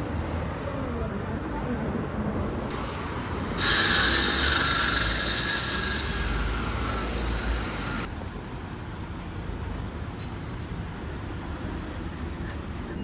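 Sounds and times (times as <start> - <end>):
steady hum of traffic: 0.0 - 13.0.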